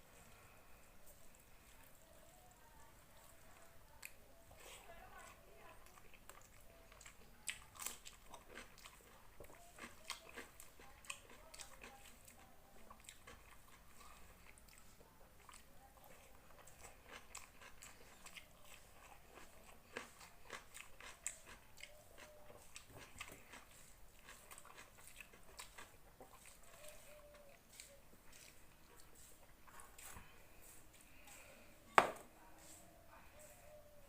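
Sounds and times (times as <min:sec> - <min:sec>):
person chewing and crunching food: 0:00.0 - 0:33.8.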